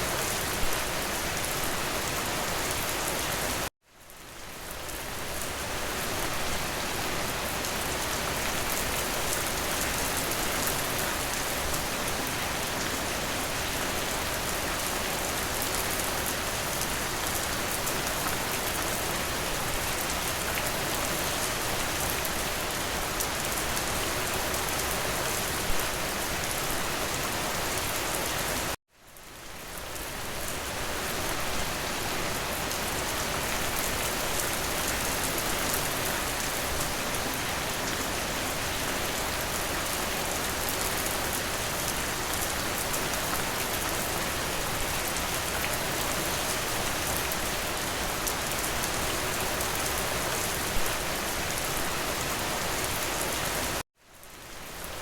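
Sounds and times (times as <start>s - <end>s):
rain hiss with dense patter: 0.0s - 55.0s.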